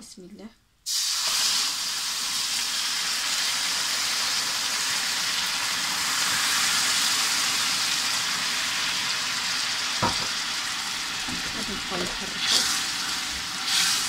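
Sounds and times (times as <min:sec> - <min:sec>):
caramel sizzling and boiling: 0:00.9 - 0:14.0
water poured into hot pan: 0:00.9 - 0:14.0.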